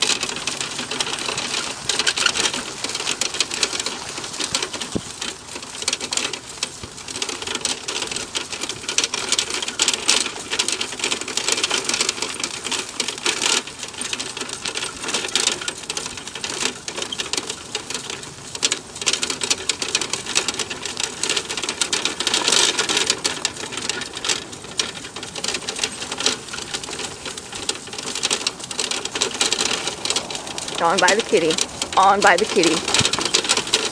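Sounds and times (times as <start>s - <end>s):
cart rattling over asphalt: 0.0s - 33.9s.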